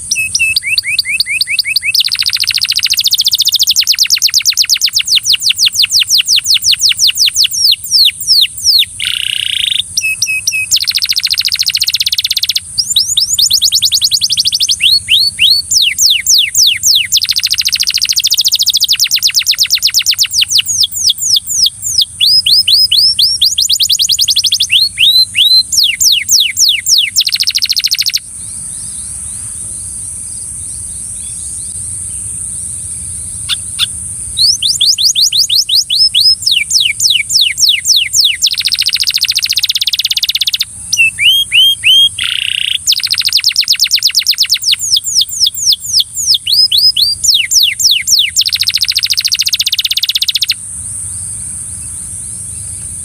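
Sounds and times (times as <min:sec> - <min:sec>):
steady high hiss: 0:00.0 - 0:46.5, 0:47.2 - 0:53.0
canary singing: 0:00.0 - 0:50.7.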